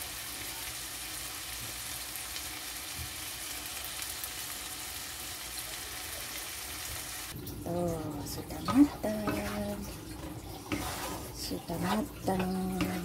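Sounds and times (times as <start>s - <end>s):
food sizzling in a wok: 0.0s - 7.4s, 8.0s - 13.0s.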